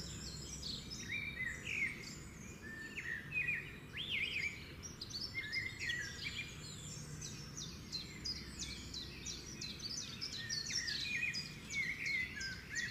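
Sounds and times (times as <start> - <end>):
birds chirping and singing: 0.0 - 12.9.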